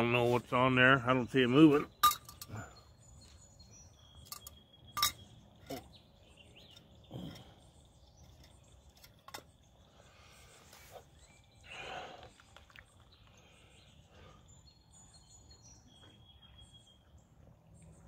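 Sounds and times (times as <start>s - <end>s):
faint bird chirps: 1.1s - 18.0s.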